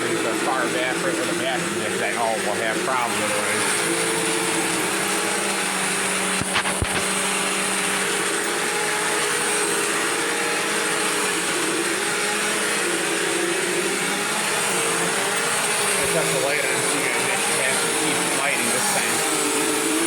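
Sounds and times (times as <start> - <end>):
vacuum cleaner running on carpet: 0.0 - 20.0.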